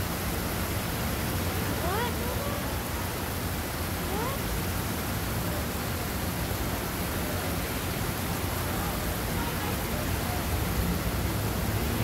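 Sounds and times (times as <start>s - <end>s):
rushing outdoor background noise: 0.0s - 12.0s.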